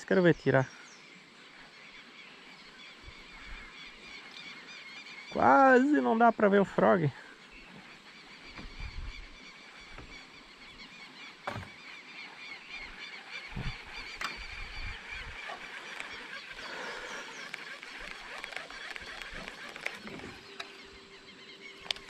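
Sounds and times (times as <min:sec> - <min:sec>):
birds chattering chorus: 0:00.0 - 0:22.0.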